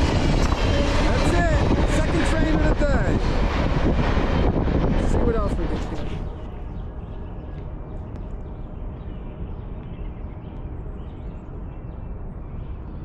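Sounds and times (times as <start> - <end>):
low outdoor rumble: 0.0 - 13.0
small birds chirping: 0.1 - 13.0.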